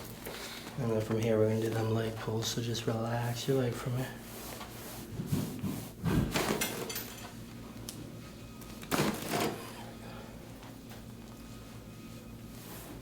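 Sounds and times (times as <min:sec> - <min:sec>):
rustling on padded treatment table: 0:00.0 - 0:09.7, 0:10.4 - 0:13.0.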